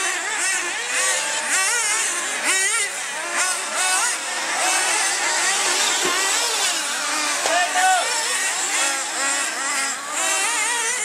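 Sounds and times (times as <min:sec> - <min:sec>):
rc car engines whining: 0:00.0 - 0:11.0.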